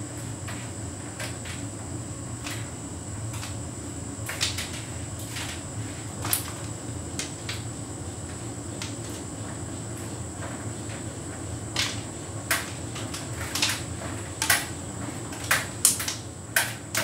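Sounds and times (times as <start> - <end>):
tumble dryer humming: 0.0 - 17.0.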